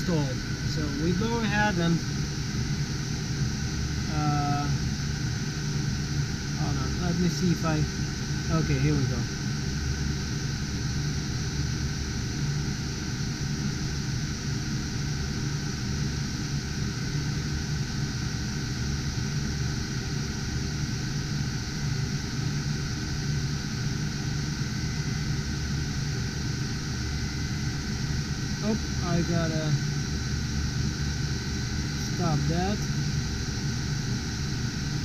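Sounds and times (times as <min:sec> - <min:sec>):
cooling fans whirring: 0:00.0 - 0:35.0
low hum: 0:00.0 - 0:35.0.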